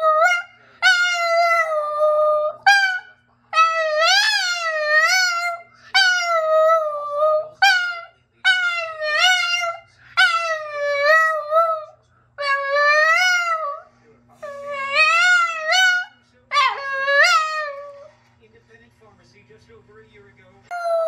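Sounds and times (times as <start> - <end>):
dog howling: 0.0 - 13.8, 14.4 - 18.1, 20.7 - 21.0.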